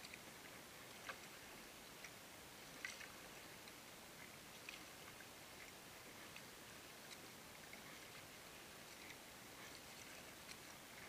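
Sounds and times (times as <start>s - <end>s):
water drips and ticks: 0.0s - 11.0s.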